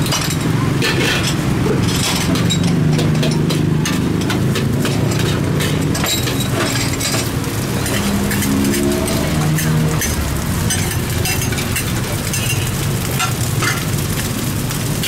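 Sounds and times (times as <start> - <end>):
spatula scraping a wok: 0.0 - 14.0.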